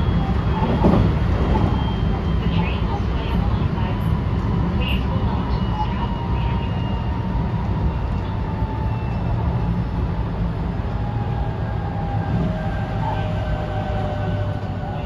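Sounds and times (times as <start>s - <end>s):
train wheel and rail rumble: 0.0s - 15.0s.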